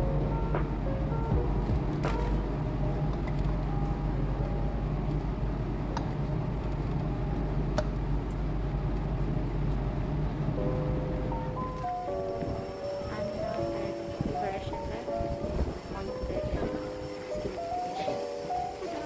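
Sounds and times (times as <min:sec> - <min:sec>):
air handling hum: 0:00.0 - 0:19.0
faint background music: 0:00.0 - 0:19.0.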